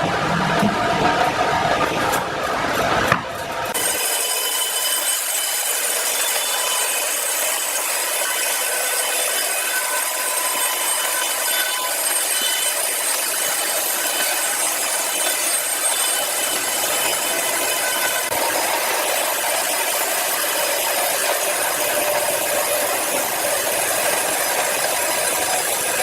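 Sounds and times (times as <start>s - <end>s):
saw cutting through log: 2.1s - 26.0s.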